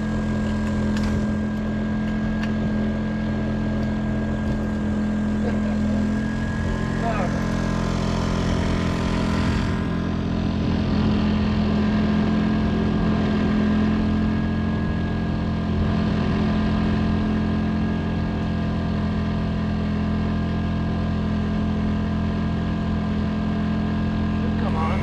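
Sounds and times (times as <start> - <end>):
air compressor running: 0.0 - 25.0
small generator running: 0.0 - 25.0.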